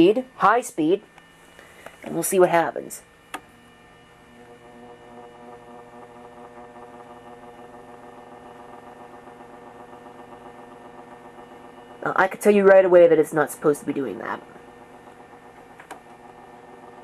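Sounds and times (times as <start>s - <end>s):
electric fan motor humming: 0.0s - 17.0s.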